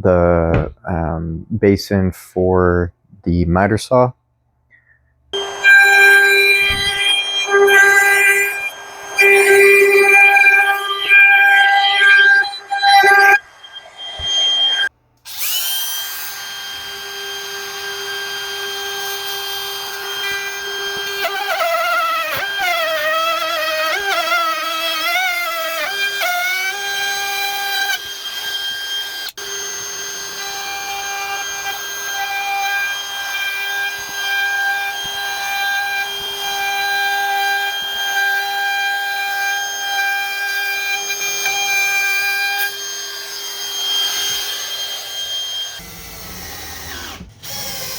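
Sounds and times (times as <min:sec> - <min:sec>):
handheld router whining: 0:05.3 - 0:47.9.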